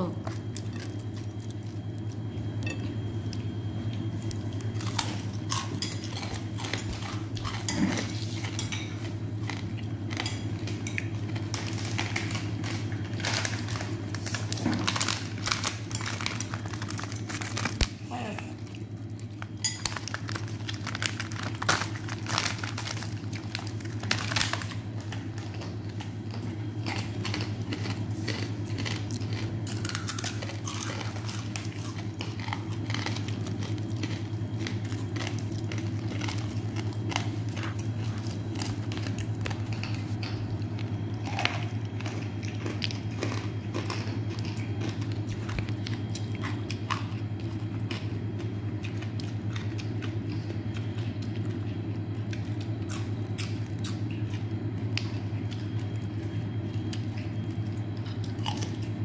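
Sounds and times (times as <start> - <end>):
steady low hum: 0.0 - 59.0
crisp vegetables crackling on plate: 0.2 - 59.0.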